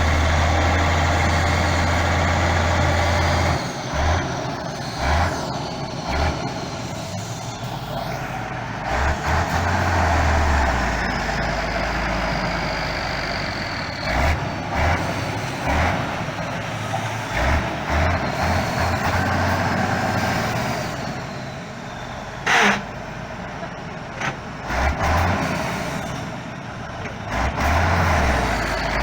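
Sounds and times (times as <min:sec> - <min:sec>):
diesel truck engine revving: 0:00.0 - 0:29.0.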